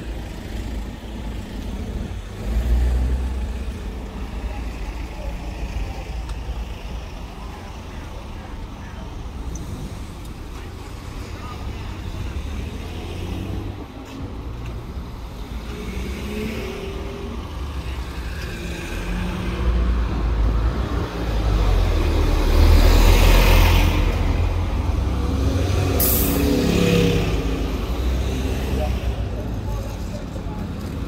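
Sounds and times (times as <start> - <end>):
diesel buses passing: 0.0 - 31.0
heavy road traffic: 0.0 - 31.0.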